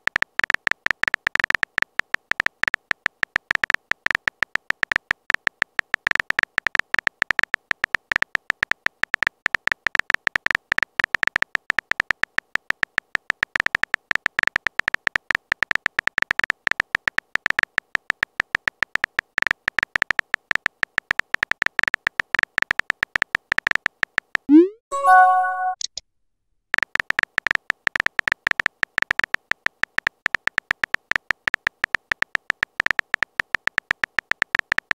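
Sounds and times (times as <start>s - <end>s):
phone keyboard clicks: 0.0s - 24.5s, 26.8s - 34.9s.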